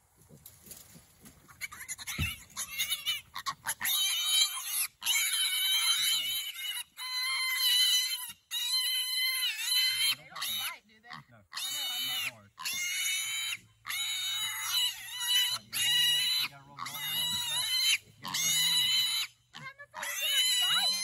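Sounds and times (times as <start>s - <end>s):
piglet squealing: 1.5s - 21.0s.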